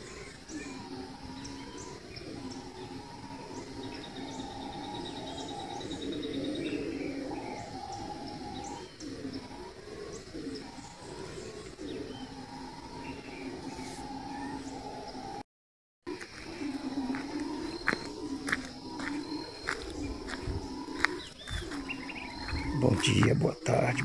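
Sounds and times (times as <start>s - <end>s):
low calling chorus from forest: 0.0s - 15.4s, 16.1s - 24.0s
rapid bird trill: 0.0s - 15.4s, 16.1s - 24.0s.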